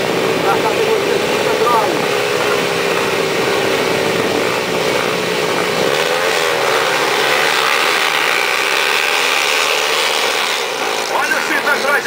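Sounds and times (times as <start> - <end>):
motocross engines revving: 0.0 - 12.0.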